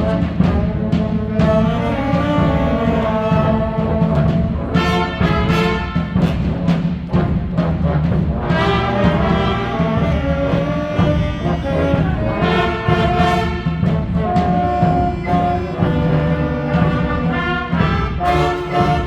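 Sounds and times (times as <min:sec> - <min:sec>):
brass orchestral music: 0:00.0 - 0:19.0.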